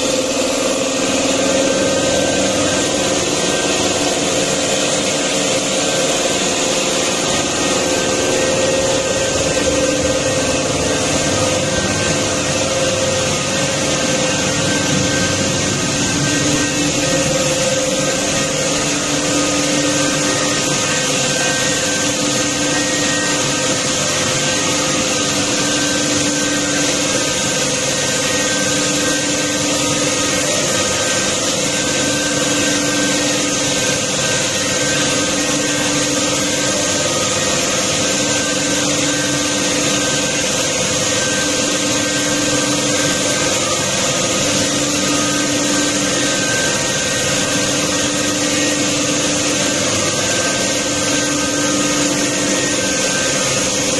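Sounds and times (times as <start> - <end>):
coolant spray hissing: 0.0 - 53.9
pipe threading machine hum: 0.0 - 53.9.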